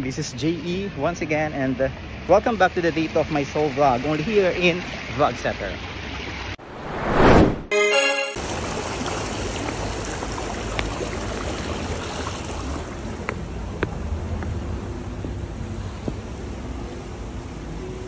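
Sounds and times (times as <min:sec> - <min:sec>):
stream flowing: 0:00.0 - 0:06.6, 0:07.8 - 0:18.0.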